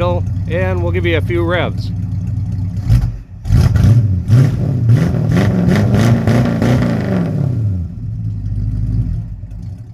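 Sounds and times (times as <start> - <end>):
car engine revving: 0.0 - 9.9.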